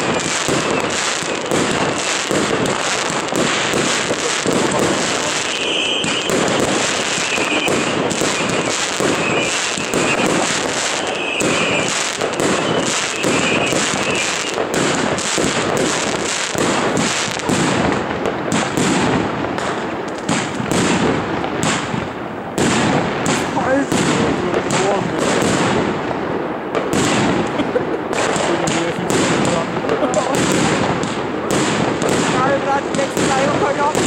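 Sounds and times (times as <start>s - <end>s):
fireworks firing and crackling: 0.0s - 34.0s.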